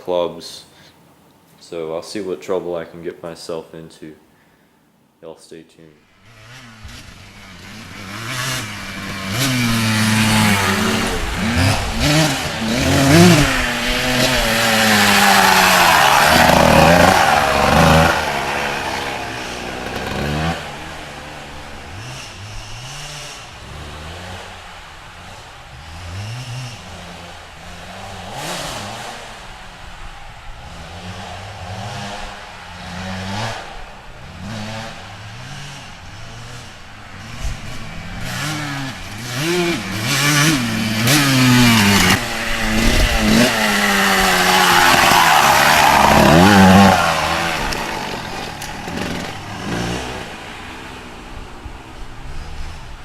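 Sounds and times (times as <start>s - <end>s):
motorcycle engine revving: 6.1s - 53.0s.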